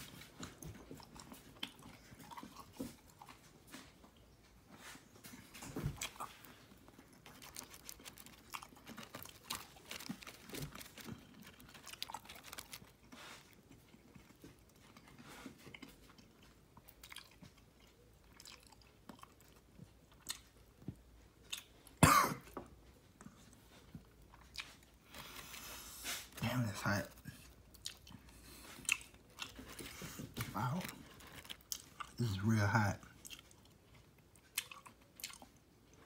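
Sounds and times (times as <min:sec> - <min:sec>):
person chewing crispy food: 0:00.0 - 0:04.3, 0:05.3 - 0:36.0.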